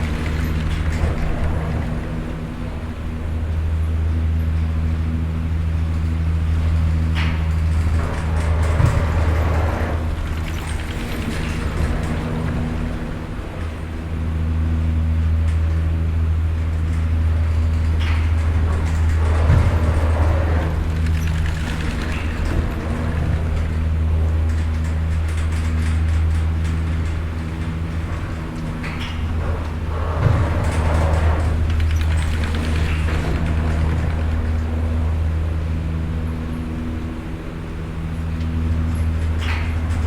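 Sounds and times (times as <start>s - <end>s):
machinery drive hum: 0.0s - 40.0s
noisy wash: 0.0s - 40.0s.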